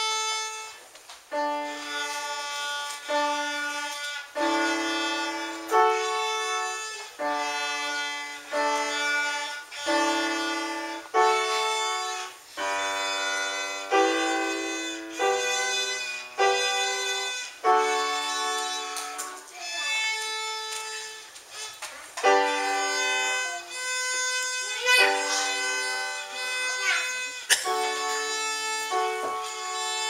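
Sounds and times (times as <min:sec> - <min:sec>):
piano accompaniment: 0:00.0 - 0:21.3, 0:22.2 - 0:30.0
violin playing slow melody: 0:00.0 - 0:30.0.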